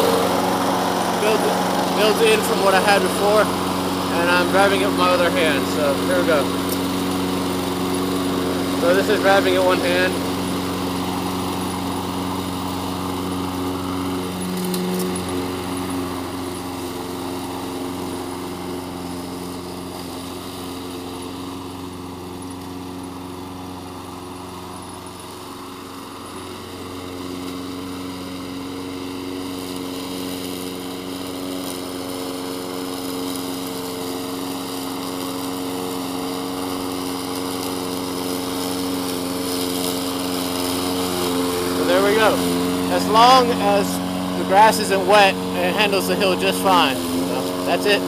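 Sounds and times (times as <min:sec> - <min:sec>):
small mower engine running: 0:00.0 - 0:48.0.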